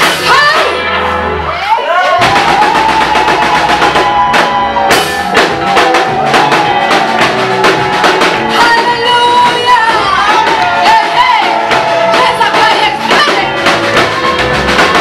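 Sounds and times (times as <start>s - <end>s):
band with drum kit: 0.0s - 15.0s.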